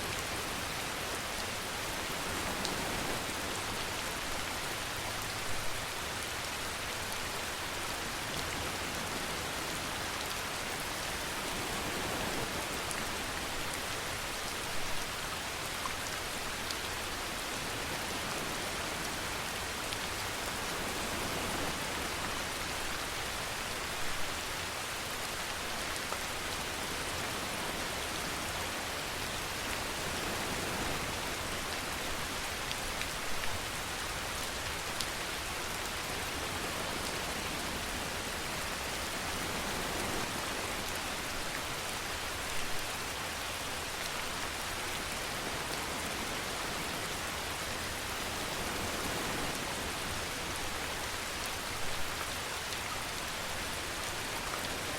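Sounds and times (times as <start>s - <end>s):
rain hissing on a surface: 0.0s - 54.9s.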